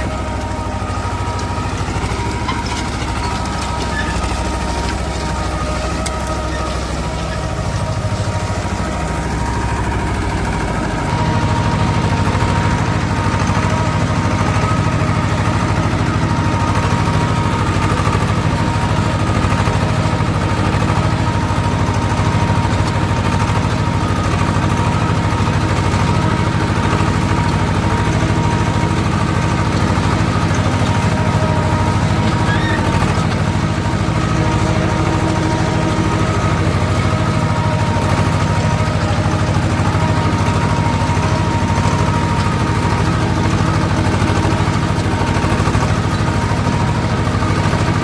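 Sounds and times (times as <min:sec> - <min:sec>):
tractor diesel engine chugging: 0:00.0 - 0:48.0.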